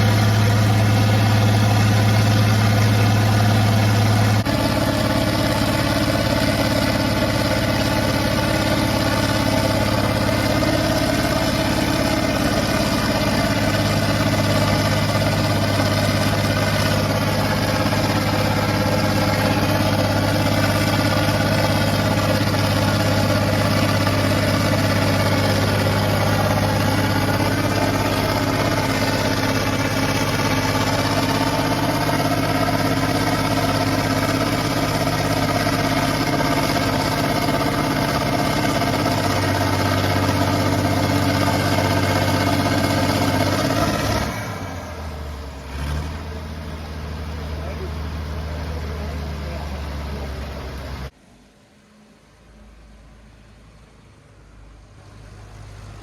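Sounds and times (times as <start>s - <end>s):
tractor engine running steadily: 0.0s - 56.0s.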